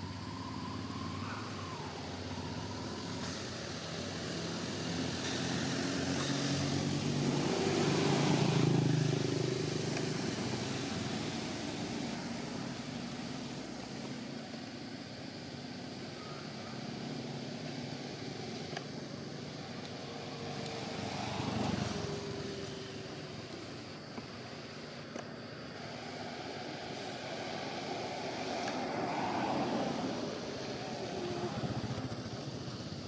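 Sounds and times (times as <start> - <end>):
passing vehicle engine hum: 0.0 - 33.0.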